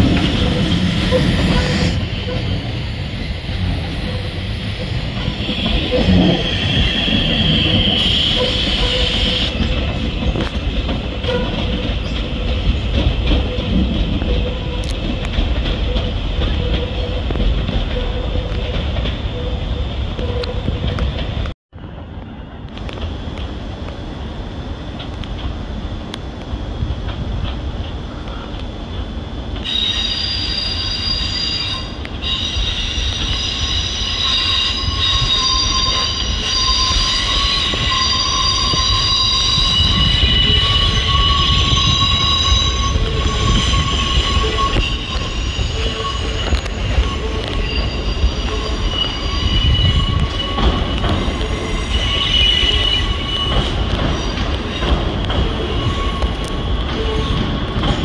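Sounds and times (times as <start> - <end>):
train wheels squealing on rails: 0.0 - 21.3, 29.6 - 58.0
low rumble of train: 0.0 - 58.0.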